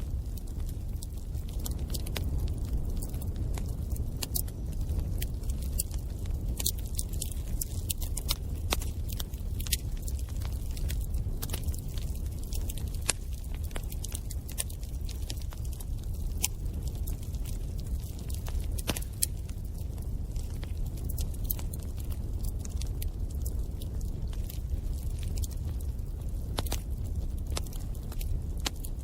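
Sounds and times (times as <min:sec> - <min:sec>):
bonfire flames: 0:00.0 - 0:29.0
wood crackling and popping: 0:00.0 - 0:29.0.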